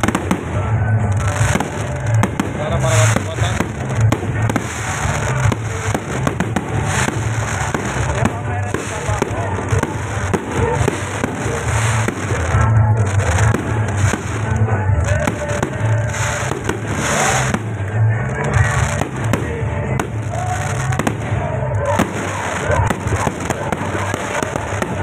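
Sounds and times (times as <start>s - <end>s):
fireworks bangs: 0.0s - 25.0s
music: 0.0s - 25.0s
voices: 0.0s - 25.0s.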